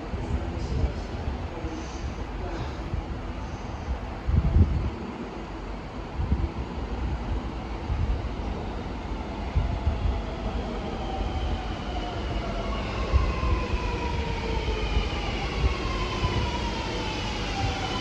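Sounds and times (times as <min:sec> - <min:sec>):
low rumble of train running: 0:00.0 - 0:18.0.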